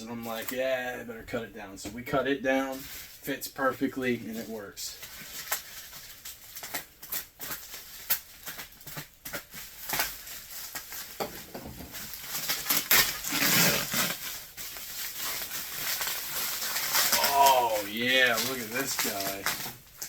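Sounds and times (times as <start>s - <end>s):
rustling of objects: 0.1s - 20.0s.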